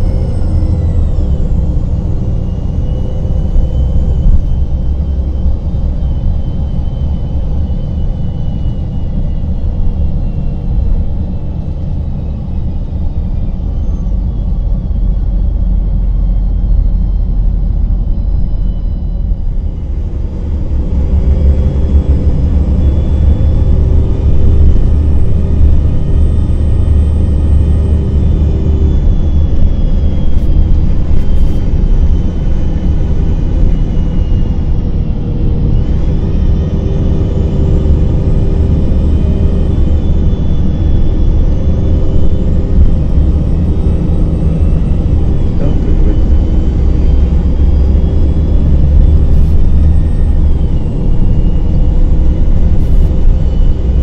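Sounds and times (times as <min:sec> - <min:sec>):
bus engine rumble: 0:00.0 - 0:54.0
faint transmission whine: 0:00.0 - 0:54.0.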